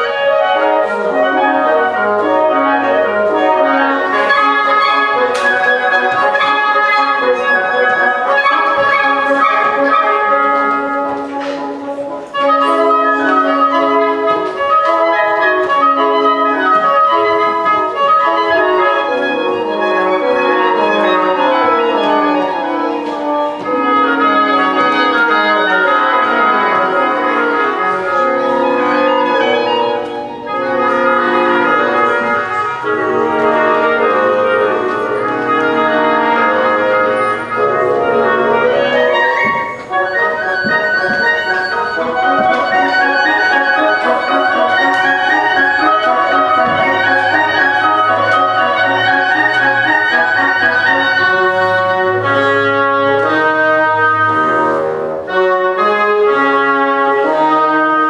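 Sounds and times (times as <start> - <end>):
woodwind quintet playing: 0.0 - 58.0.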